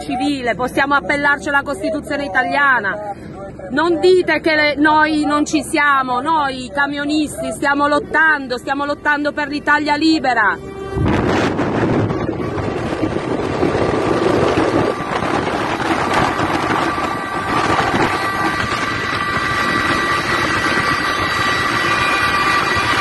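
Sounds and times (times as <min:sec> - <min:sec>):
faint steady tones: 0:00.0 - 0:23.0
motorway traffic: 0:00.0 - 0:23.0
wind buffeting microphone: 0:03.3 - 0:23.0.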